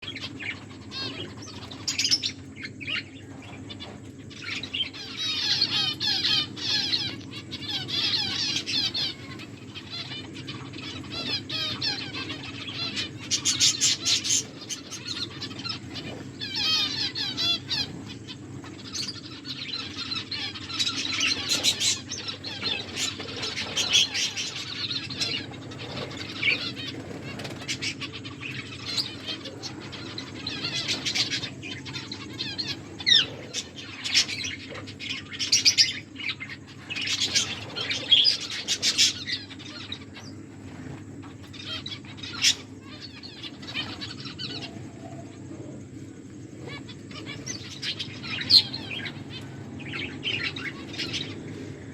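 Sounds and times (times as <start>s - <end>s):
finches chirping: 0.0s - 51.9s
steady low hum: 0.0s - 51.9s
wings fluttering: 0.0s - 51.9s.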